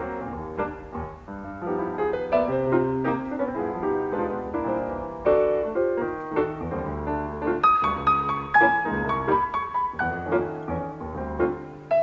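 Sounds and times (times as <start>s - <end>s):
two pianos playing jazz: 0.0s - 12.0s.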